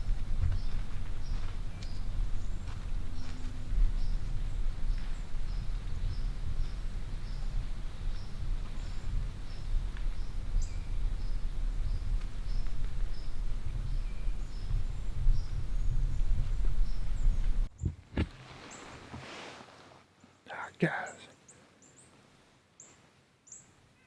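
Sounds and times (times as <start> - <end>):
low rumble on microphone: 0.0 - 19.4.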